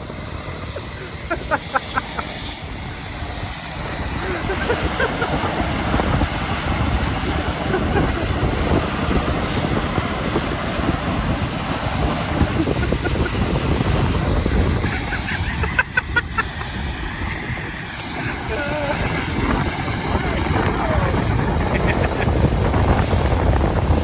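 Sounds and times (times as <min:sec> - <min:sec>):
machinery running: 0:00.0 - 0:24.0
wind buffeting microphone: 0:00.0 - 0:24.0.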